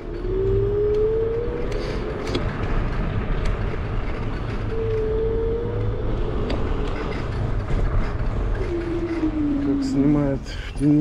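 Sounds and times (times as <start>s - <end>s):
vehicle rumble and wind noise: 0.0s - 11.0s.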